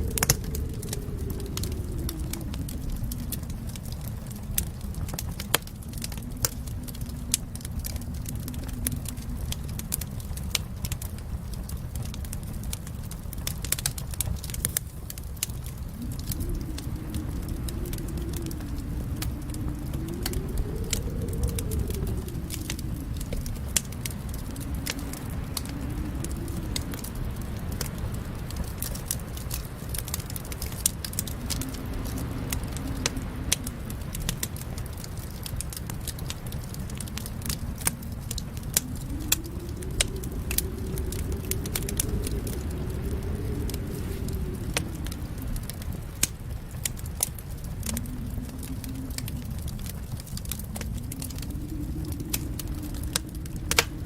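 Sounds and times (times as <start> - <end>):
low rumble: 0.0 - 54.0
wood fire crackling: 0.0 - 54.0.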